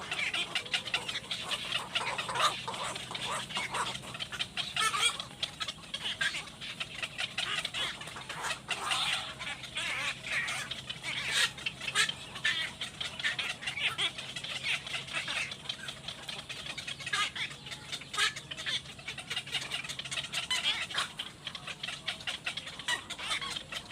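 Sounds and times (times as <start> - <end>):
young fowl chirping and clucking: 0.0 - 23.9.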